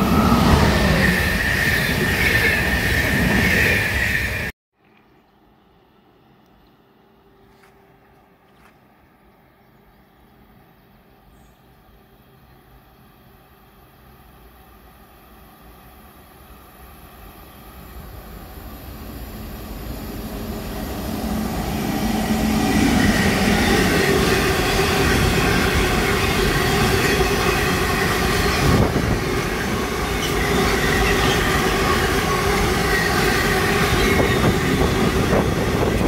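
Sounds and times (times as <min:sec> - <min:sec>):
train passing: 0:00.0 - 0:04.5, 0:05.4 - 0:36.0.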